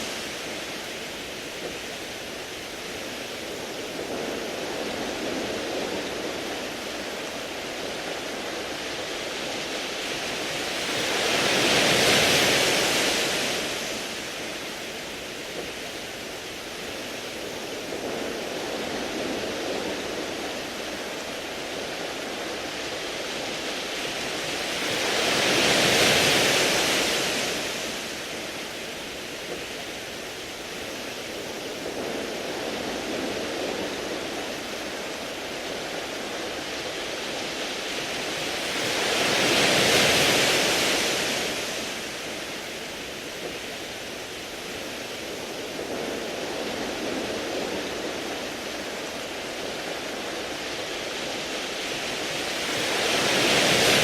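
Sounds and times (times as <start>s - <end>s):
waves washing over pebbles: 0.0s - 54.0s.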